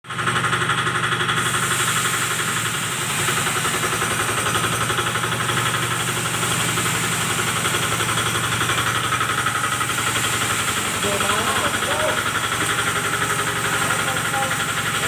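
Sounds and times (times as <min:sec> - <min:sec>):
grain mill droning and pulsing: 0:00.0 - 0:15.0.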